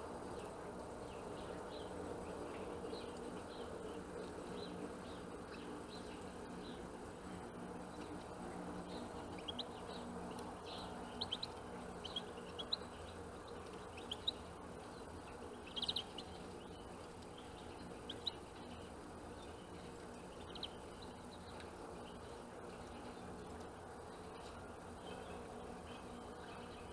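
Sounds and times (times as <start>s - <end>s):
steady low hum: 0.0s - 26.9s
small birds chirping: 0.2s - 26.9s.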